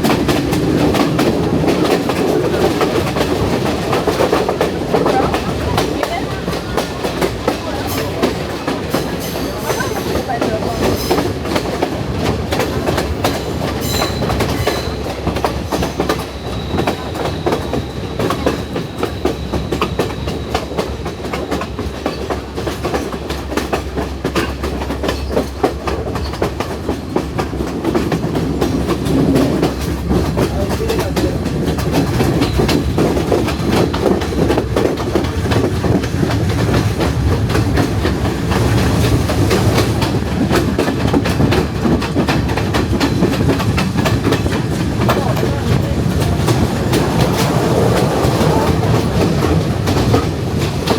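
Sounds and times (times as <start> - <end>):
train carriage rumble: 0.0 - 50.9
wheels clattering over rail joints: 0.0 - 50.9.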